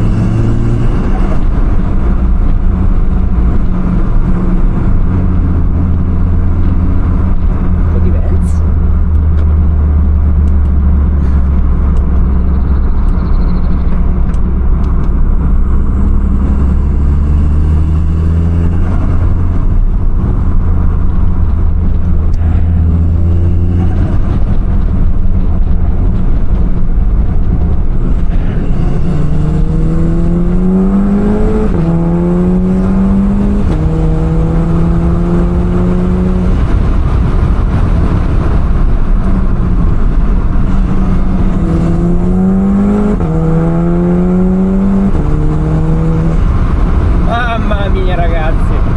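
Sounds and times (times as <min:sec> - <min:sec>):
car engine from inside: 0:00.0 - 0:48.9
engine accelerating through upshifts: 0:00.0 - 0:48.9.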